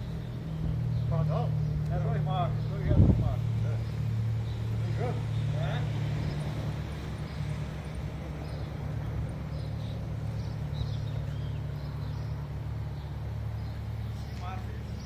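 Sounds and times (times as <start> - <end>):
sparrows chirping: 0.0 - 15.0
street traffic hum: 0.0 - 15.0.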